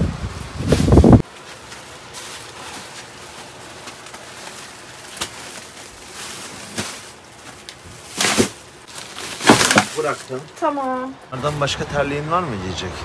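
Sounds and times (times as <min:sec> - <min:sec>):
plastic bags rustling: 0:00.3 - 0:11.7.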